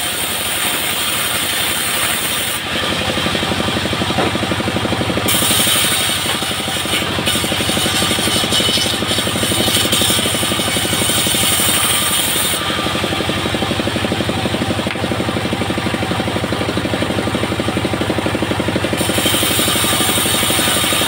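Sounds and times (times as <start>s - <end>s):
band saw blade cutting wood: 0.0s - 21.0s
diesel engine chugging: 0.0s - 21.0s.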